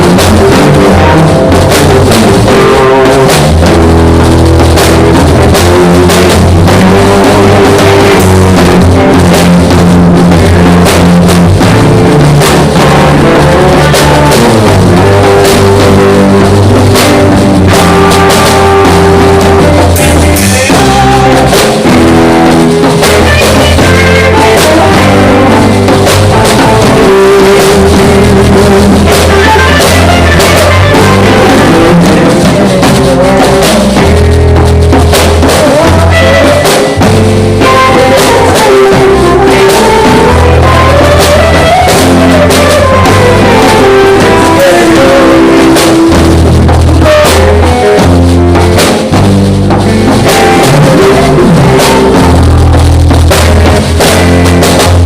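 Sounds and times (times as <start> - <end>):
drum kit: 0.0 - 55.0
guitar playing: 0.0 - 55.0.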